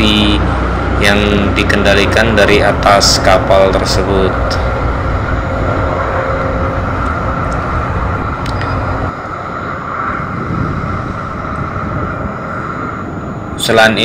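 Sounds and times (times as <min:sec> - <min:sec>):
boat engine rumble: 0:00.0 - 0:14.0
water noise: 0:00.0 - 0:14.0
wind: 0:00.0 - 0:14.0.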